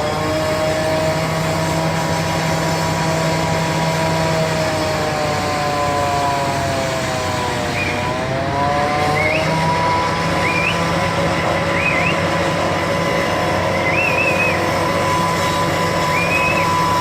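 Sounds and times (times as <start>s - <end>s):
large engine running: 0.0s - 17.0s.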